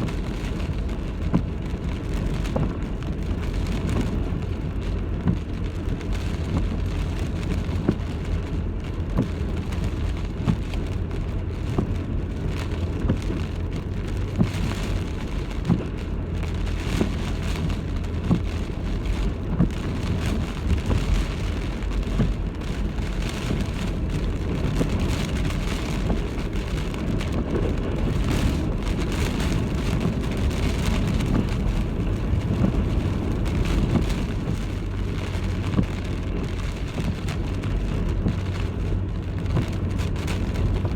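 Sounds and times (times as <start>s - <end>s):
heavy rain: 0.0s - 40.9s
low rumble: 0.0s - 40.9s
wind: 0.0s - 40.9s.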